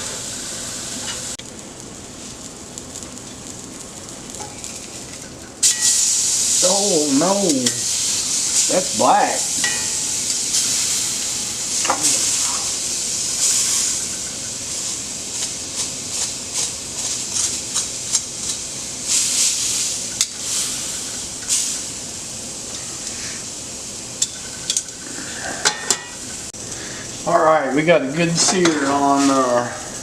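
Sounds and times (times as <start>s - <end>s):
meat sizzling in a skillet: 0.0s - 30.0s.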